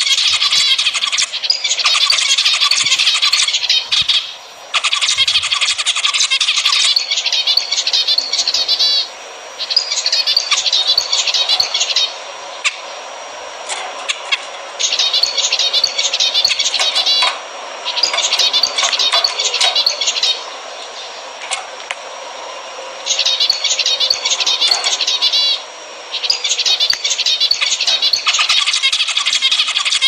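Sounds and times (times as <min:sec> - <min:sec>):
finches chattering song: 0:00.0 - 0:30.0.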